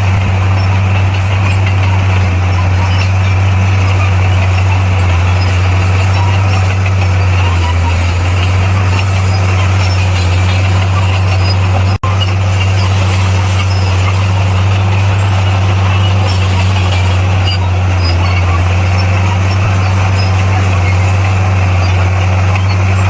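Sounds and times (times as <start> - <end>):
bulldozer diesel engine humming: 0.0 - 23.0.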